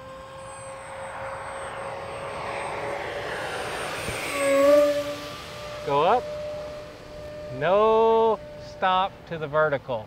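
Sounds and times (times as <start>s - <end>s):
rushing air: 0.0s - 9.6s
model plane motor whine: 0.0s - 10.0s.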